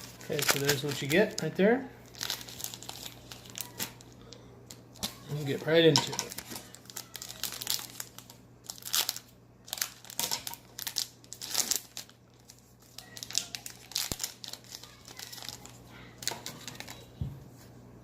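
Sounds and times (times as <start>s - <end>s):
card pack wrappers crinkling and tearing: 0.0s - 17.2s.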